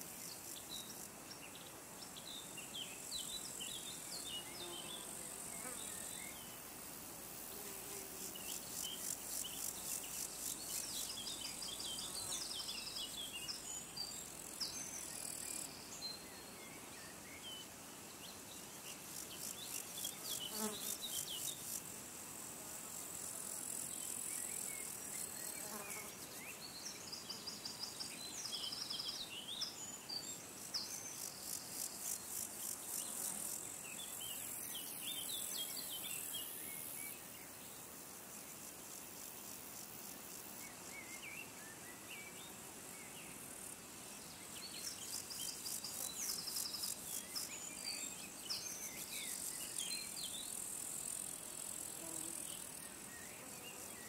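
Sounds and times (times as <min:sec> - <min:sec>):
high pulsed insect trills: 0:00.0 - 0:16.6, 0:17.2 - 0:54.0.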